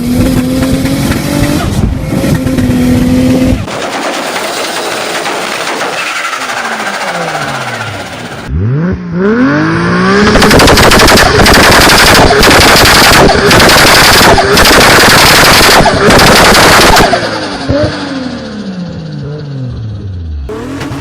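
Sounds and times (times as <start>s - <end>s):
car engine revving: 0.0s - 21.0s
exhaust backfiring: 0.0s - 21.0s.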